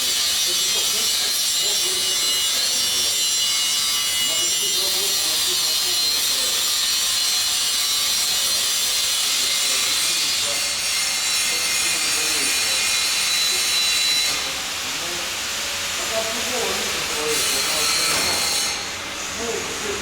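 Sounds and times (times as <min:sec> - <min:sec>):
welding arc hissing: 0:03.8 - 0:20.0.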